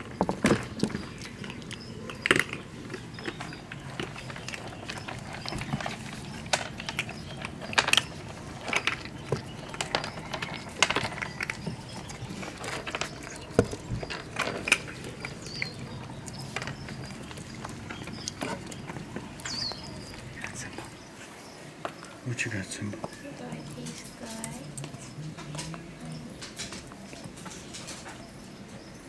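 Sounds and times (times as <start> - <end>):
puppies crunching dry kibble: 0.0 - 29.0.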